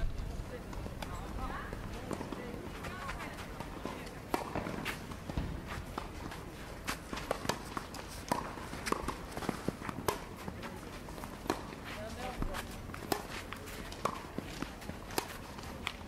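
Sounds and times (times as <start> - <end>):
footsteps on clay: 0.0 - 16.0
tennis balls struck by racquets: 0.5 - 16.0.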